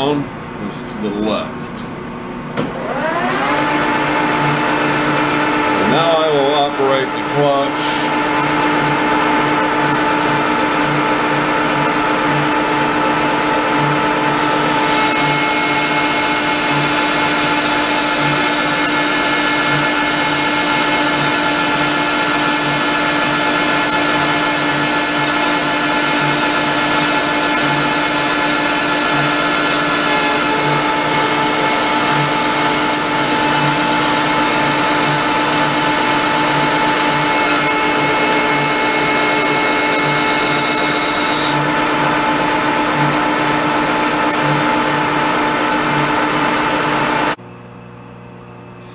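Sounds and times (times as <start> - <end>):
lathe gearing whine: 0.0 - 48.9.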